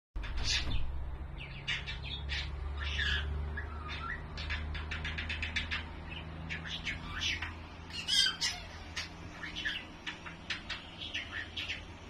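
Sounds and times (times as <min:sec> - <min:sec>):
budgerigar chirping: 0:00.2 - 0:12.0
low steady hum: 0:00.2 - 0:12.0.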